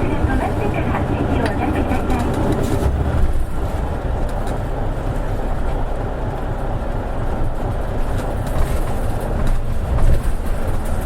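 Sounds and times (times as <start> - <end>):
bus body rattling: 0.0 - 11.0
bus engine and road rumble: 0.0 - 11.0.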